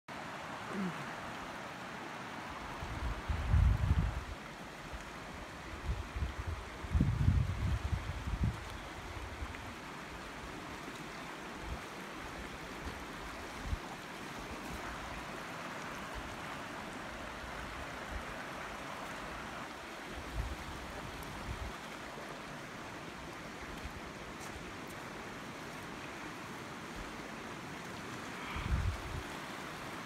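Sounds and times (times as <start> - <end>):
water rushing over rocks: 0.1 - 30.0.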